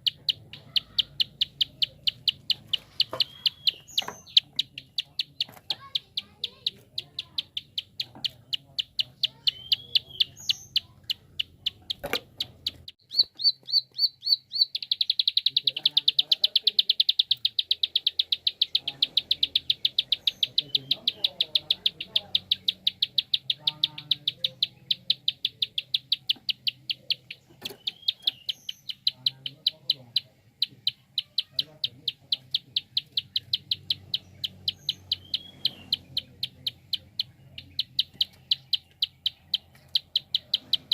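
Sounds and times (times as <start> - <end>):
bird clicking call: 0.0 - 40.9.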